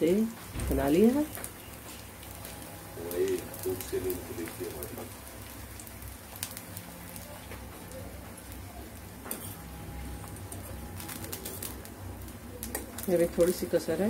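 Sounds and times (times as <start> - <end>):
eggplant sizzling in oil: 0.0 - 14.0.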